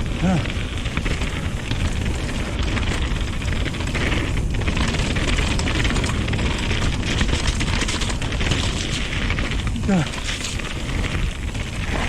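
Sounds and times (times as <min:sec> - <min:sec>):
bike rattles and clicks: 0:00.0 - 0:12.0
tyre noise: 0:00.0 - 0:12.0.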